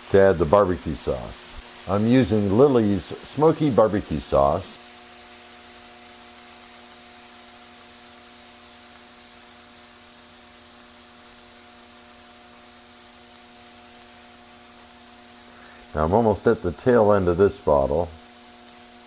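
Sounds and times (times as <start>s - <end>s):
electrical mains hum: 0.0s - 19.0s
faint steady hiss: 0.0s - 19.0s.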